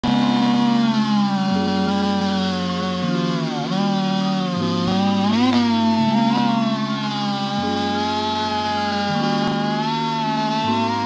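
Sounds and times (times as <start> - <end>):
chainsaw engine running fast: 0.0 - 11.0.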